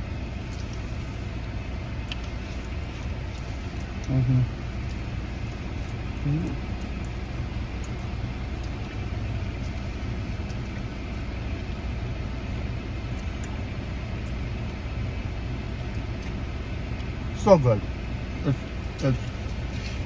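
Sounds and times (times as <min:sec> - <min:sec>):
low rumble of motor vehicles: 0:00.0 - 0:20.0.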